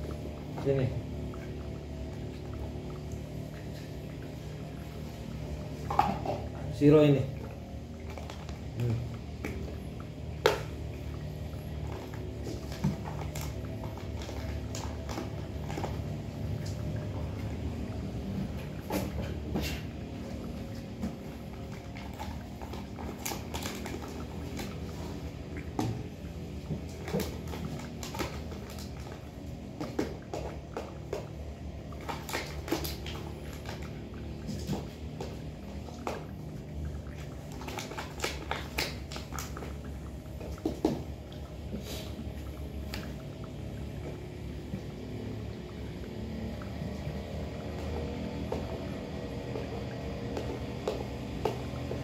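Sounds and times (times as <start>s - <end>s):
cats eating: 0.0s - 52.0s
steady low hum: 0.0s - 52.0s.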